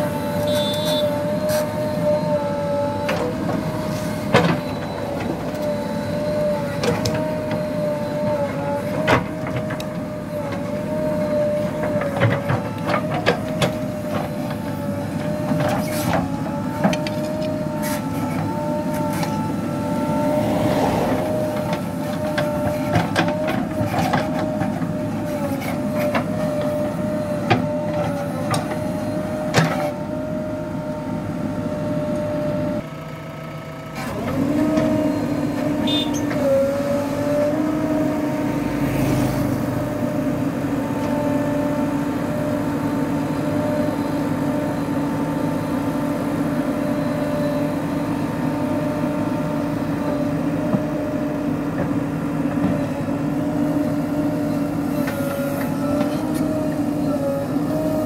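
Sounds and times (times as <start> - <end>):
diesel engine whining: 0.0 - 58.0.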